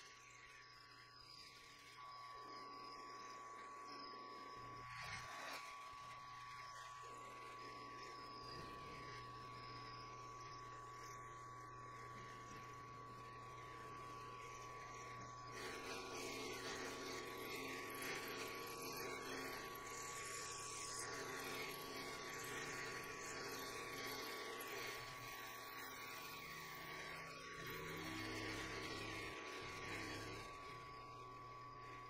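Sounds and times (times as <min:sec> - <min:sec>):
mill spindle whine: 0:00.0 - 0:32.0.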